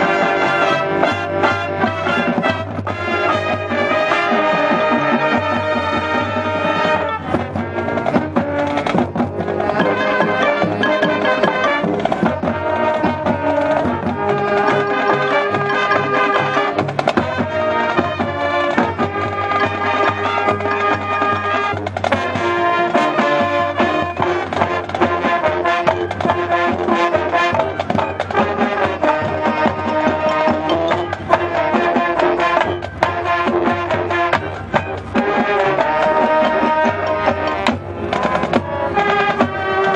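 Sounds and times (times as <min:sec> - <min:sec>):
brass holding chords: 0:00.0 - 0:39.9
drumline playing: 0:00.0 - 0:39.9.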